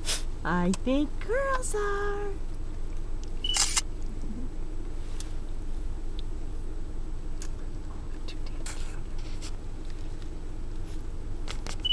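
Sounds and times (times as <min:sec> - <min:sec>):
low background rumble: 0:00.0 - 0:11.9.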